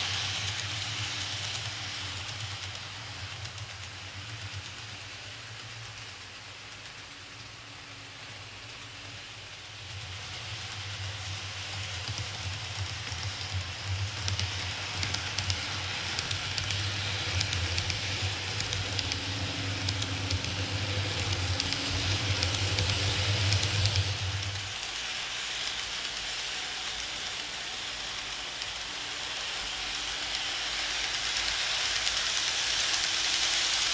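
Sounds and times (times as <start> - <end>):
model train motor hum: 0.0 - 33.9
wheels ticking on rails: 0.0 - 33.9.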